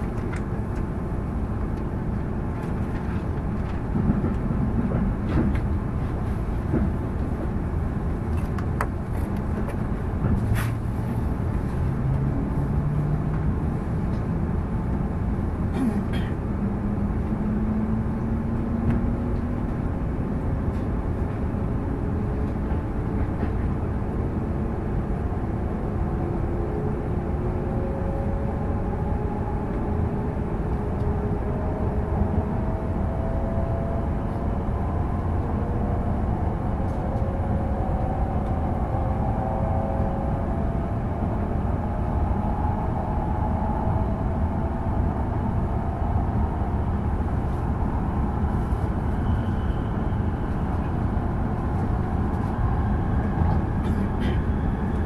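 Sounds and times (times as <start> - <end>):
train rumble and roar: 0.0 - 55.0.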